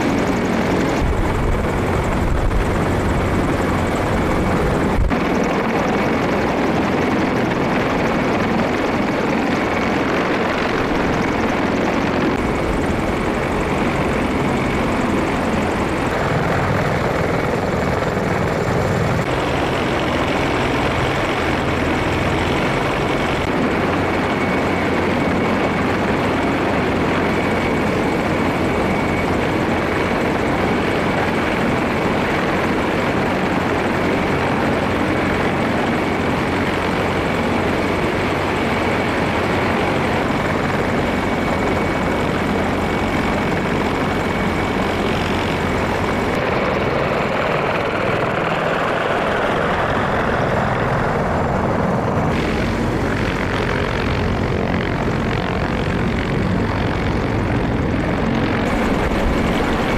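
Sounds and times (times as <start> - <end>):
helicopter turbine and rotor noise: 0.0 - 59.9.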